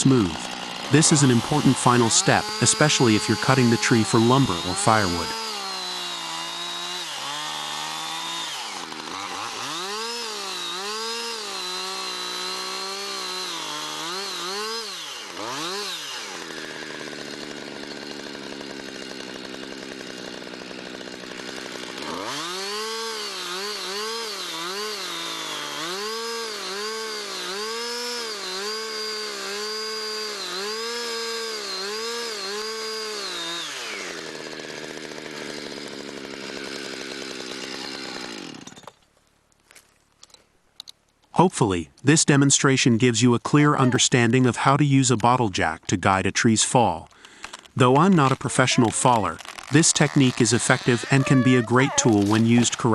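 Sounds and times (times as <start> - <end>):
chainsaw cutting wood: 0.0 - 41.0, 42.0 - 52.9.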